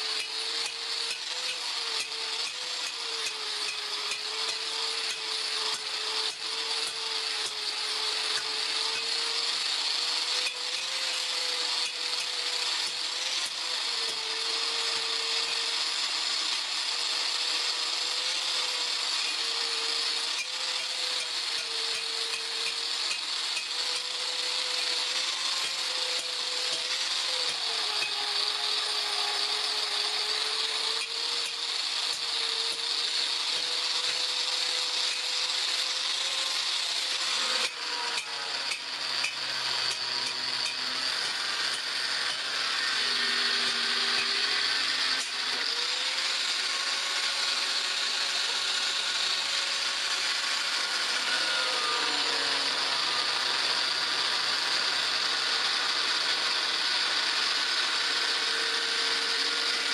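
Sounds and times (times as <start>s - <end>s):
power tool grinding metal: 0.0s - 59.9s.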